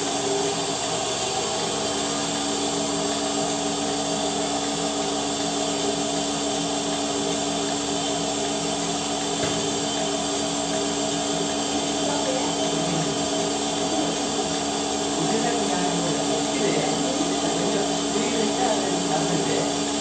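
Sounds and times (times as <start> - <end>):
milking machine vacuum pump drone: 0.0 - 20.0.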